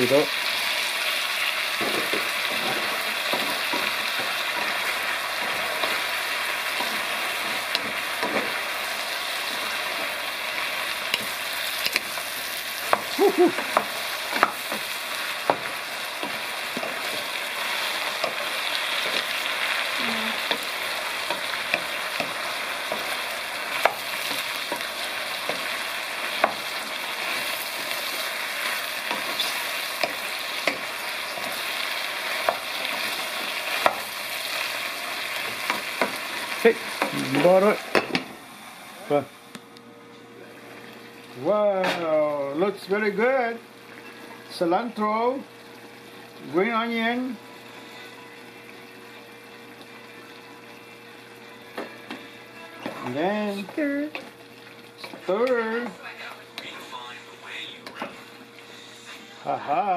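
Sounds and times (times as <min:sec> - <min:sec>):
food sizzling in a pot: 0:00.0 - 0:39.5, 0:40.3 - 0:59.9.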